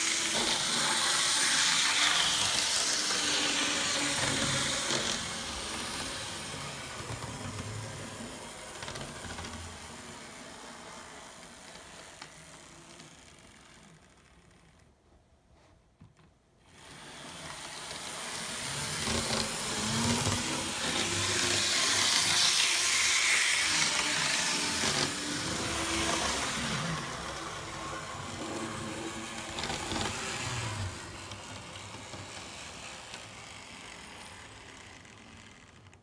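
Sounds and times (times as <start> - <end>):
model train motor whirring: 0.0 - 14.8, 16.6 - 36.0.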